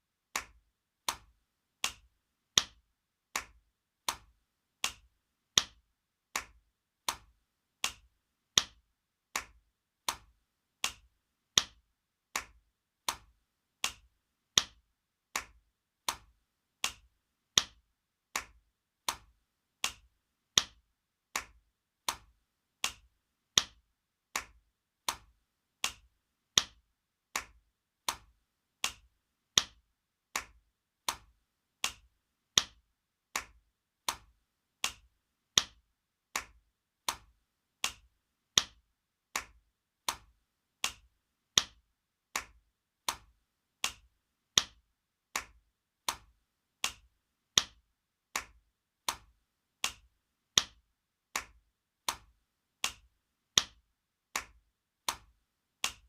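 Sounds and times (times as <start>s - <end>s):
hand slapping skin: 0.3s - 53.8s, 54.4s - 56.0s.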